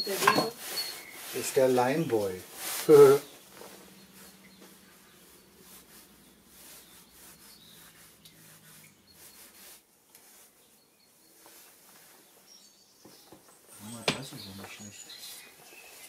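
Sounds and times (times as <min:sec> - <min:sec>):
brush scraping wooden block: 0:00.1 - 0:16.0.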